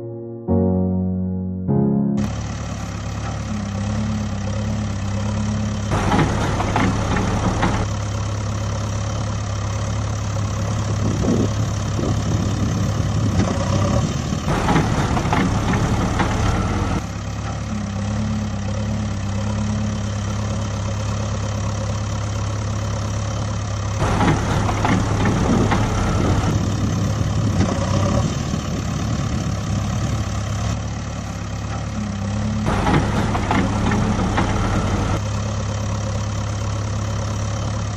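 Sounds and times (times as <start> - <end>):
engine idling: 2.2 - 37.9.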